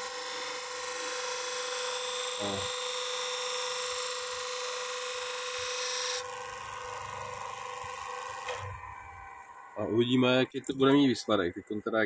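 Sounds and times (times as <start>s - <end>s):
bench grinder humming: 0.0s - 9.8s.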